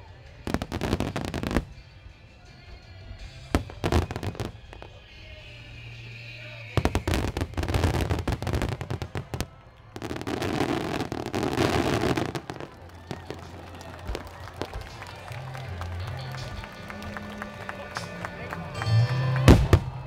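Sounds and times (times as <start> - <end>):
fireworks crackling bangs: 0.0 - 20.0
music playing: 0.0 - 20.0.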